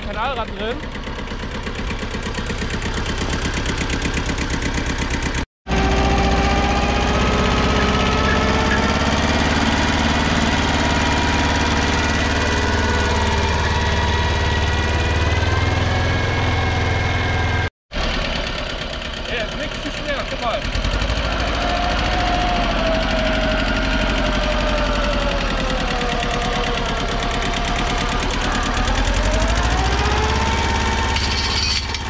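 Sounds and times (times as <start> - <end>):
tractor engine under load: 0.0 - 32.0.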